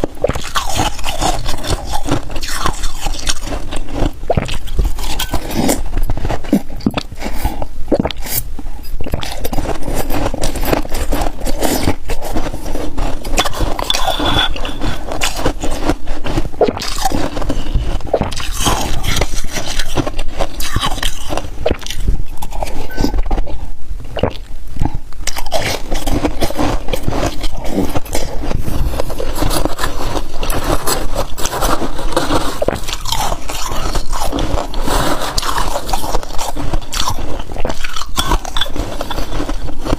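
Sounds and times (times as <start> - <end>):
frost being chewed crunching: 0.0 - 39.9.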